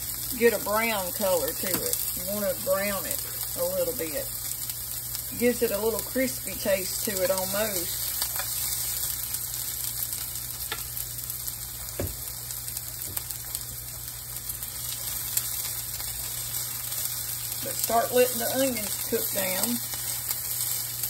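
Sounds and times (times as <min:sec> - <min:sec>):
onions sizzling in a pan: 0:00.0 - 0:21.0.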